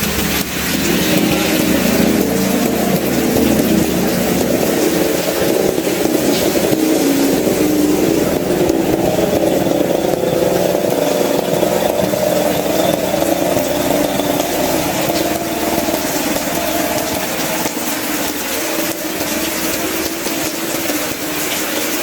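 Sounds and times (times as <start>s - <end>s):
heavy rain on roofs: 0.0s - 22.0s
wavering low drone: 0.0s - 22.0s.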